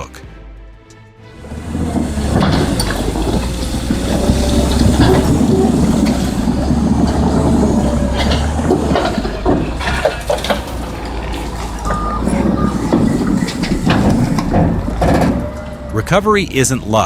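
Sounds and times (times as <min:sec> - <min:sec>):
deep engine rumble: 0:00.5 - 0:17.0
machinery rattling: 0:01.3 - 0:17.0
scattered knocks: 0:01.6 - 0:15.9.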